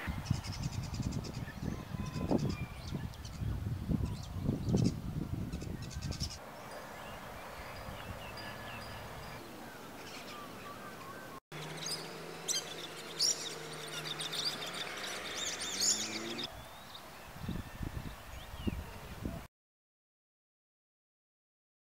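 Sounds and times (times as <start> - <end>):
small birds chirping: 0.0 - 19.1.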